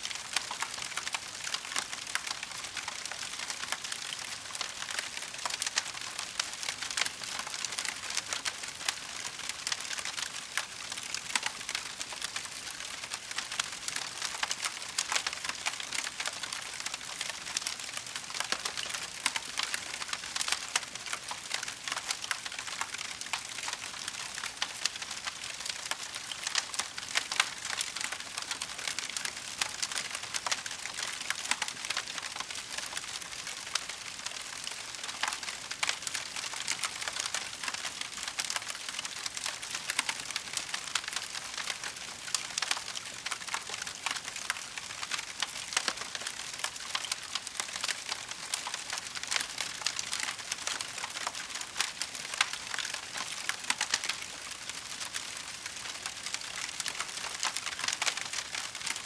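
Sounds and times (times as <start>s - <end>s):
wood fire crackling and popping: 0.1s - 59.0s.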